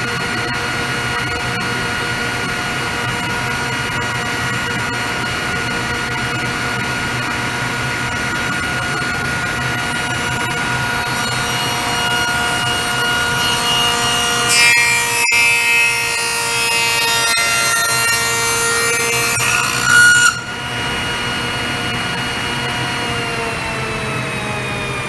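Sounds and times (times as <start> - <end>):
table saw running: 0.0 - 25.0.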